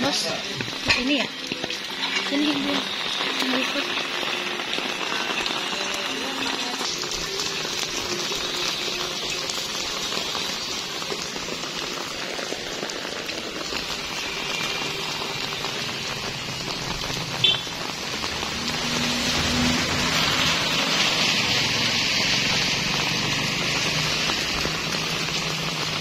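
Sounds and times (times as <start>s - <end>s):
rain on wet pavement: 0.0s - 26.0s.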